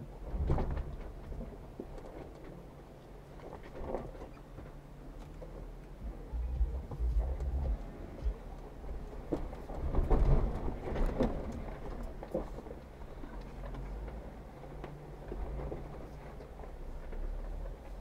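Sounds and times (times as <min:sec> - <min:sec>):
engine running low: 0:00.0 - 0:18.0.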